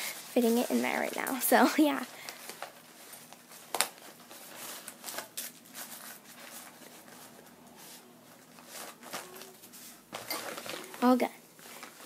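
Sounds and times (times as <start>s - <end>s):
rustling of wrapped pads: 0.0s - 12.0s.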